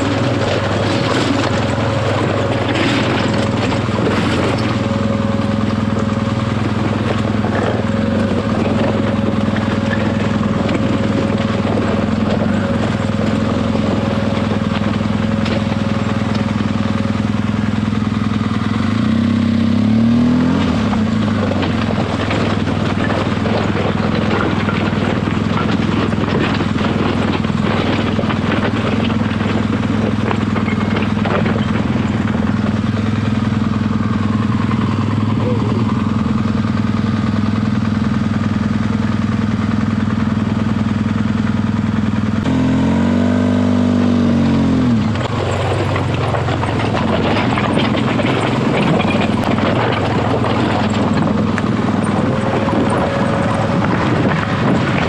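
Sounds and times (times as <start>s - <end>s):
knocks and clicks from rocks: 0.0s - 19.1s, 20.4s - 36.6s, 44.8s - 55.0s
motorcycle engine running: 0.0s - 55.0s.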